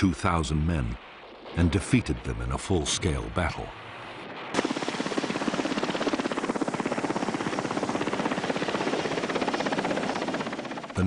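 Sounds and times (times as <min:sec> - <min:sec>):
helicopter rotor beating: 0:00.2 - 0:11.0.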